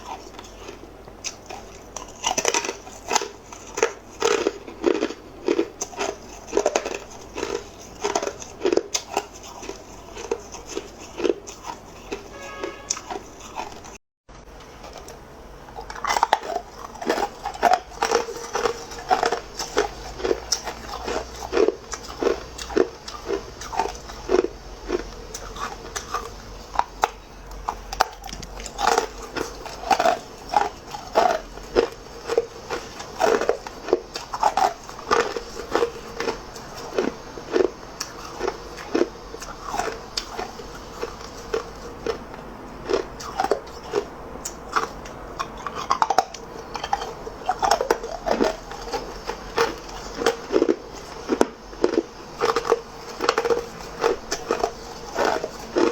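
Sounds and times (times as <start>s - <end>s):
person crunching ice cubes: 0.0s - 14.0s, 14.8s - 55.9s.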